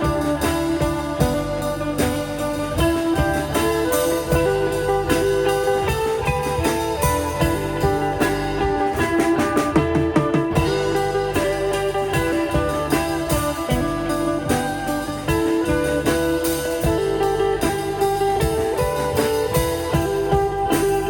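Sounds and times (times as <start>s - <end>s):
guitar-led background music: 0.0s - 21.0s.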